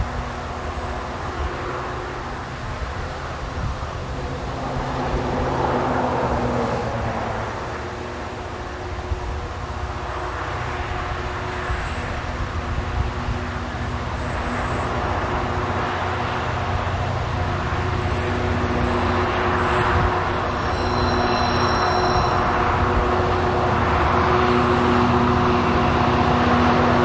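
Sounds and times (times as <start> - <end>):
diesel locomotives droning: 0.0 - 27.0.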